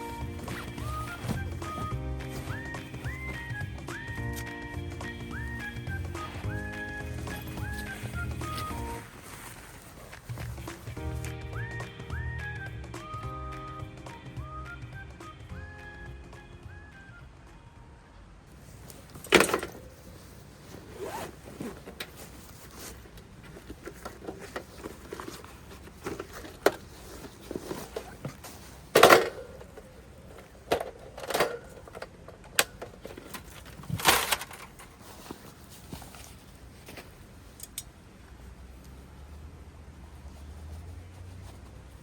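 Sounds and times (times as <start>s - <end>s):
rustling and scraping of gear: 0.0s - 11.4s, 18.5s - 42.0s.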